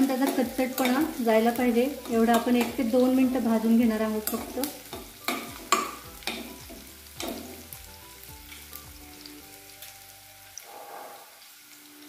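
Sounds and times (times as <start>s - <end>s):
onion sizzling in hot oil: 0.0s - 12.0s.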